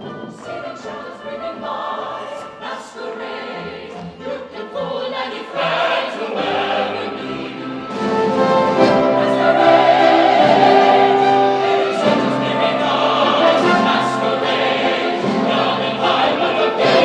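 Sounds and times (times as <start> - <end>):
choir singing with orchestra: 0.0 - 17.0.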